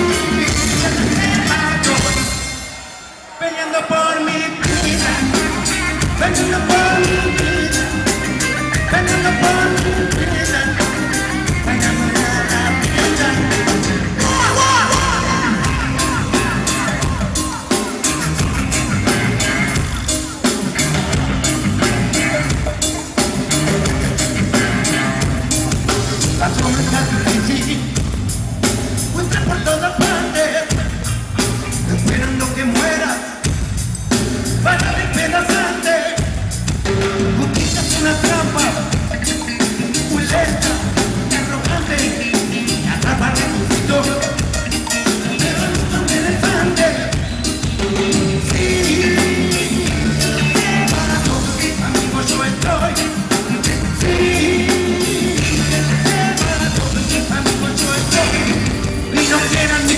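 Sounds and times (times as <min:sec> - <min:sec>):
person singing: 0:00.0 - 0:02.6, 0:03.4 - 0:28.0, 0:37.3 - 0:59.9
reggae band playing: 0:00.0 - 0:59.9.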